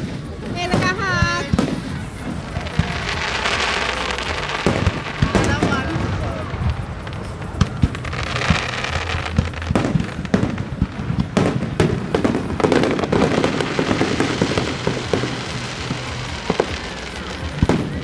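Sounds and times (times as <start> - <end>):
fireworks bangs and booms: 0.0 - 18.0
fireworks crackling bursts: 0.0 - 18.0
music: 0.0 - 18.0.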